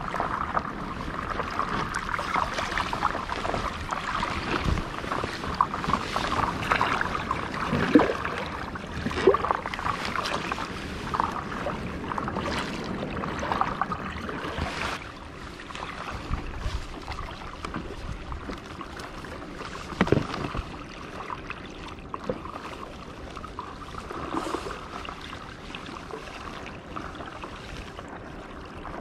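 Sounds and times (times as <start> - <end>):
water splashing and rushing: 0.0 - 29.0.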